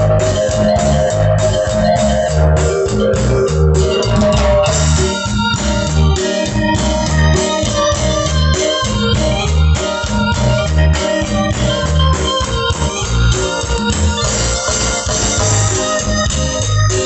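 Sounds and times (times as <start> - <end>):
organ-like keyboard music: 0.0 - 17.0
repeating bass line: 0.0 - 17.0.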